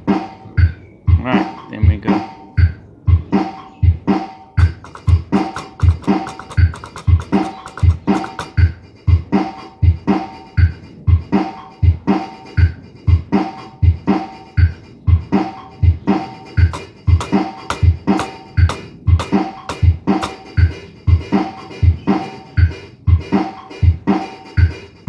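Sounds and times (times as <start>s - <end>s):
drum machine beat: 0.0s - 25.0s.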